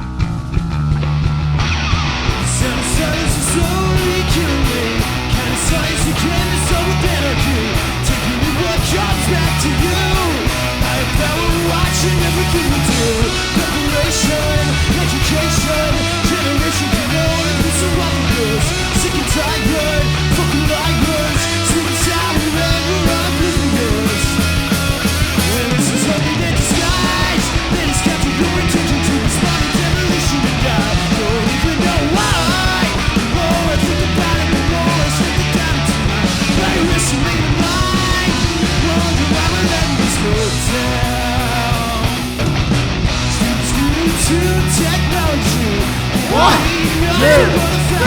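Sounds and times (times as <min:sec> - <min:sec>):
punk rock band playing: 0:00.0 - 0:48.0.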